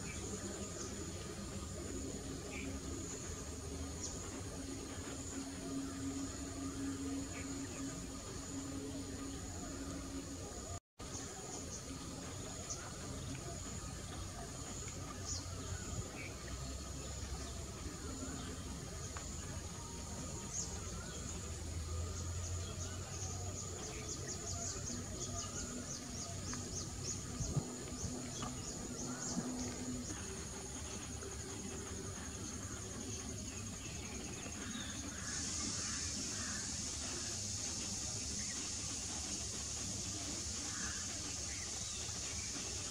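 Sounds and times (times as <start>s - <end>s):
insects buzzing and trilling: 0.0s - 42.9s.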